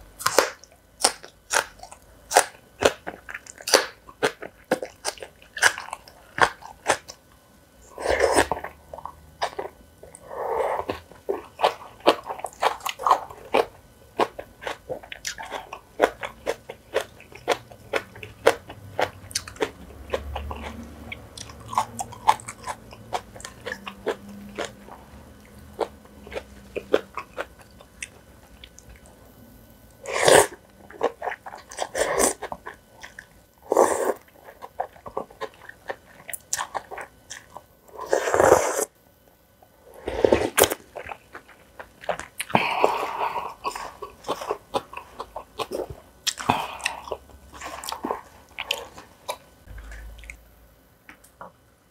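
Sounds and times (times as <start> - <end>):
person chewing crunchy food: 0.1 - 29.2, 29.9 - 38.9, 39.8 - 50.4.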